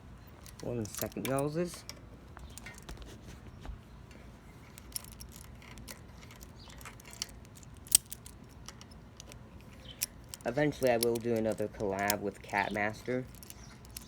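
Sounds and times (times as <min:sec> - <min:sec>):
metallic clicks of small tools: 0:00.4 - 0:02.9, 0:04.7 - 0:14.0.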